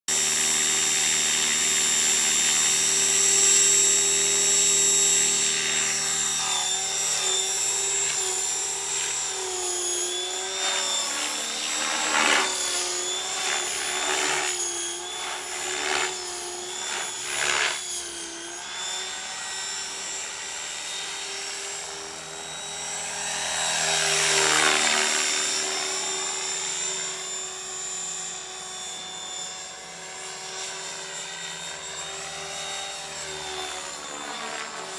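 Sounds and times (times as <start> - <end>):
model helicopter rotor whine: 0.1 - 34.9.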